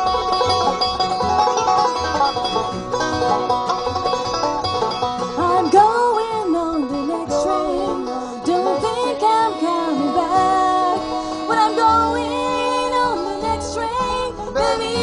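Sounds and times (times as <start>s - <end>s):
acoustic guitar: 0.0s - 15.0s
banjo picking: 0.0s - 15.0s
fiddle melody with slides: 0.0s - 15.0s
upright bass: 0.0s - 15.0s.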